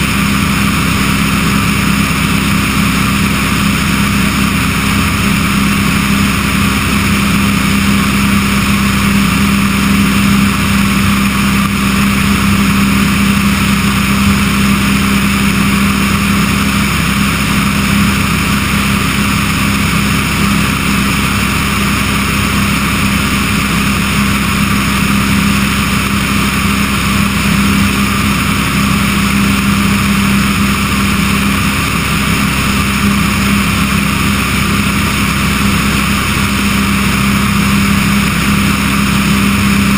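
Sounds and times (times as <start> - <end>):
aircraft engine droning: 0.0 - 39.9
airstream rushing: 0.0 - 39.9.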